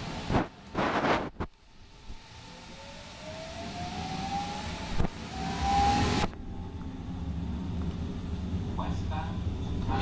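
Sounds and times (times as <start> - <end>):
electric train drive whining: 0.0 - 10.0
low rumble of train ride: 0.0 - 10.0
rush of noise: 0.0 - 10.0.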